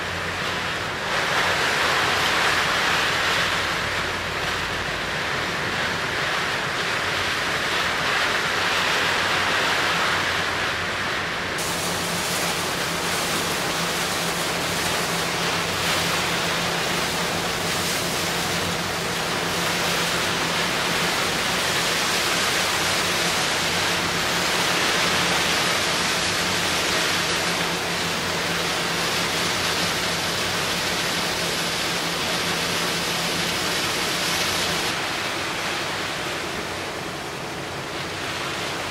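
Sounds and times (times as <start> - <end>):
sea water rushing: 0.0 - 38.9
ship engine hum: 0.0 - 38.9
wind: 0.0 - 38.9.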